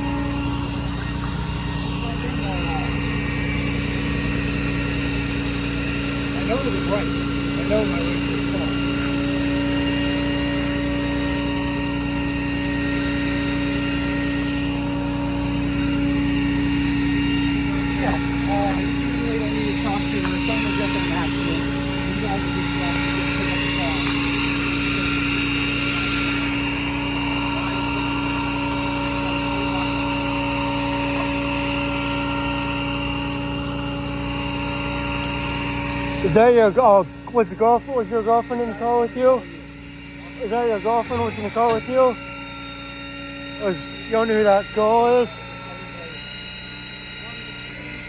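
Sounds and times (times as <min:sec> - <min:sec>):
vehicle engine humming: 0:00.0 - 0:48.0.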